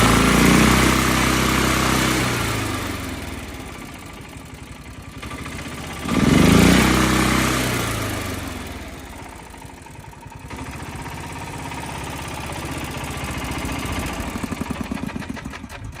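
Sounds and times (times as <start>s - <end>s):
petrol engine revving and running: 0.0s - 16.0s.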